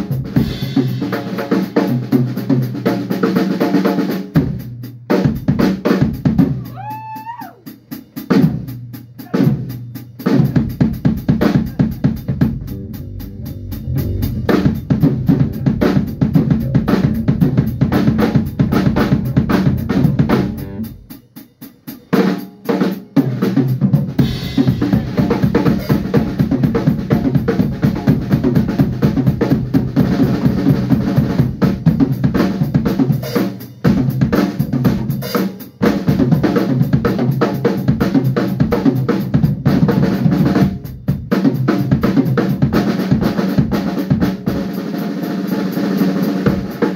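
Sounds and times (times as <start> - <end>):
drum kit fast groove: 0.0 - 46.9.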